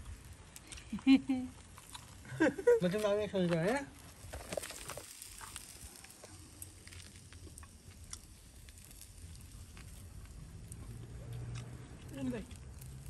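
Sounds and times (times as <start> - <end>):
meat crackling on charcoal grill: 0.0 - 13.0.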